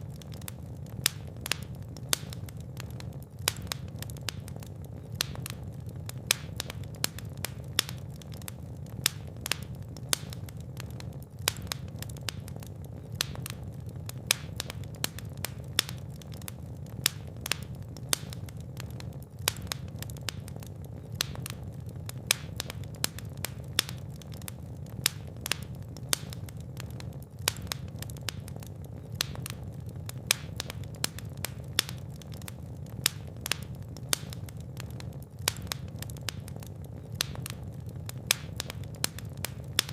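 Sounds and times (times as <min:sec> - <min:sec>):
fire crackling: 0:00.0 - 0:39.9
sharp pops and snaps: 0:00.0 - 0:39.9.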